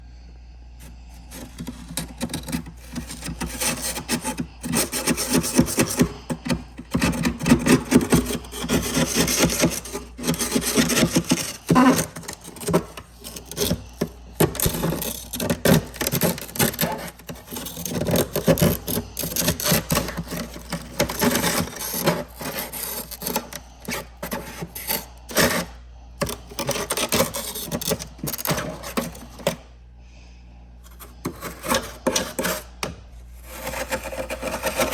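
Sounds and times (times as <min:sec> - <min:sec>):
frost being scraped: 0:00.8 - 0:29.6, 0:30.9 - 0:34.9.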